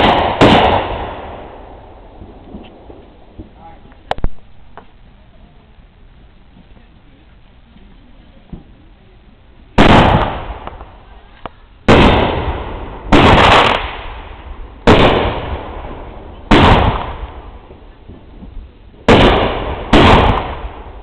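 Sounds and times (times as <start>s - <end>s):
rumbling echo: 0.0s - 6.8s, 9.6s - 21.0s
fireworks banging: 0.0s - 21.0s.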